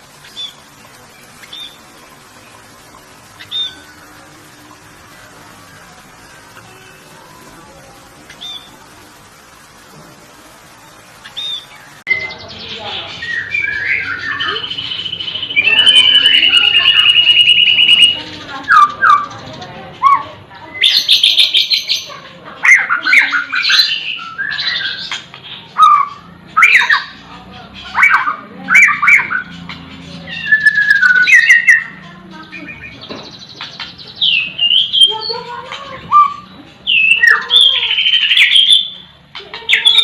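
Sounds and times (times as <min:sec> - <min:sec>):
high rapid bird trill: 0:00.0 - 0:09.9, 0:10.6 - 0:40.0
songbirds chirping: 0:00.0 - 0:40.0.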